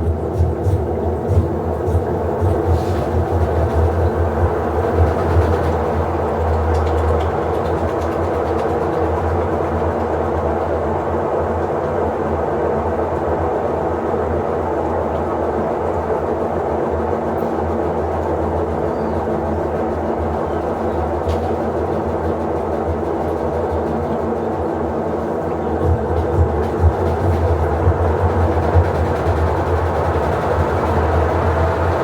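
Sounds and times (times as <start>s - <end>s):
washing machine motor drone: 0.0s - 13.7s, 15.5s - 32.0s.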